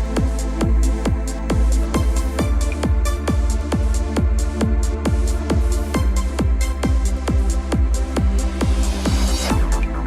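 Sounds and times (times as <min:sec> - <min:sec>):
electronic dance music: 0:00.0 - 0:10.0
kick drum: 0:00.0 - 0:10.0
synth chords: 0:00.0 - 0:10.0.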